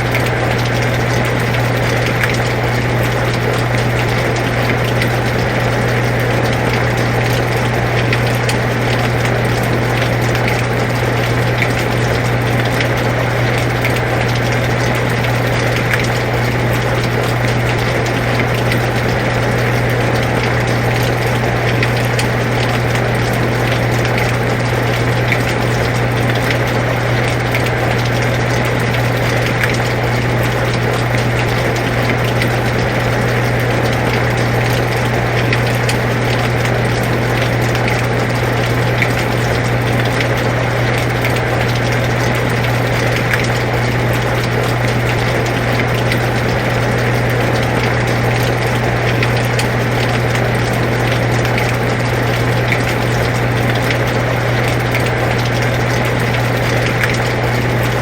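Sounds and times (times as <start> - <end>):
air conditioner humming: 0.0 - 58.0
raindrops ticking: 0.0 - 58.0.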